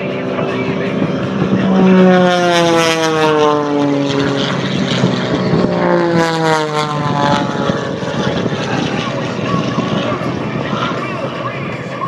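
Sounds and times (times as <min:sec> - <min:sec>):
propeller airplane engines droning: 0:00.0 - 0:12.0.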